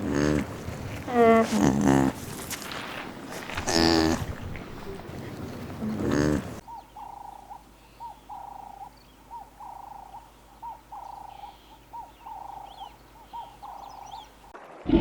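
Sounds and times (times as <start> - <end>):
animal calling: 0.0 - 14.4.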